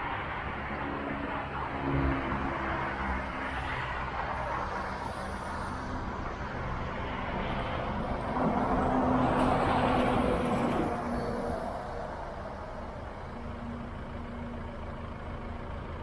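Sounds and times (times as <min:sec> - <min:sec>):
passing vehicle: 0:00.0 - 0:16.0
road traffic noise: 0:00.0 - 0:16.0.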